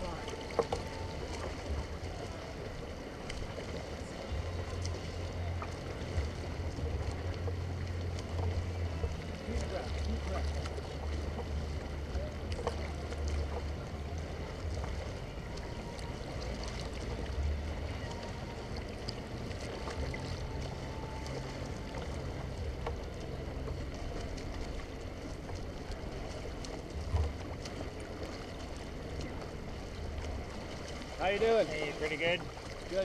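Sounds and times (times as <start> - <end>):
water lapping against boat hull: 0.0 - 33.0
wind rumbling on microphone: 0.0 - 33.0.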